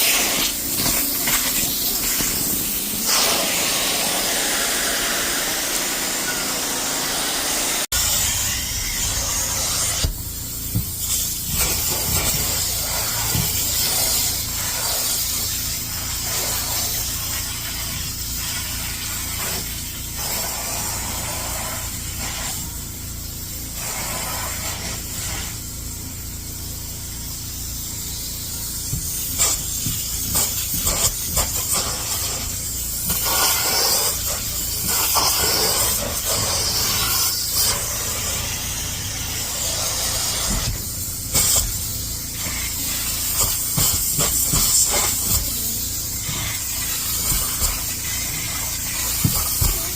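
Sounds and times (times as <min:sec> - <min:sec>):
spraying and suction hiss: 0:00.0 - 0:49.9.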